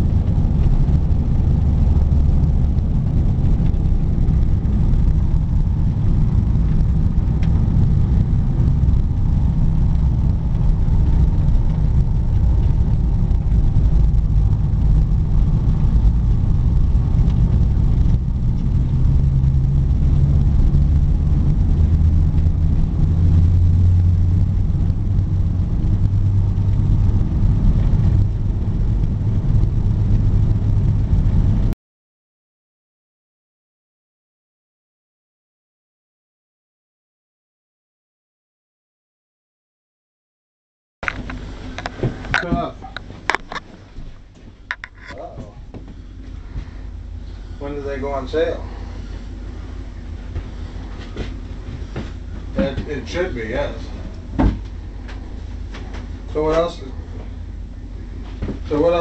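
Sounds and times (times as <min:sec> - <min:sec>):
snowmobile engine drone: 0:00.0 - 0:31.8, 0:41.0 - 0:59.0.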